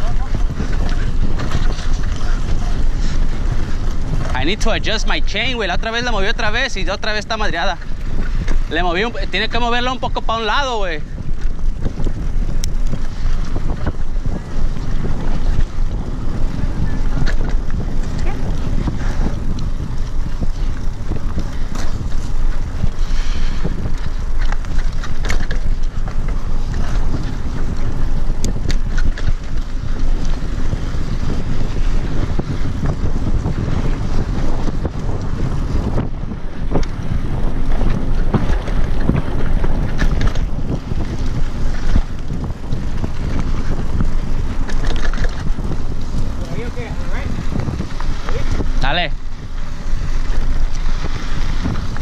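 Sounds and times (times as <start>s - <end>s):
bike clicks and rattles: 0.0s - 52.0s
wind rushing over microphone: 0.0s - 52.0s.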